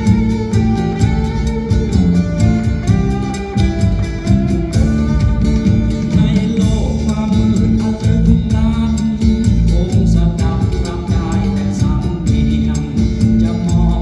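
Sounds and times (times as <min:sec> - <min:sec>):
song with singing guitar and drums: 0:00.0 - 0:14.0.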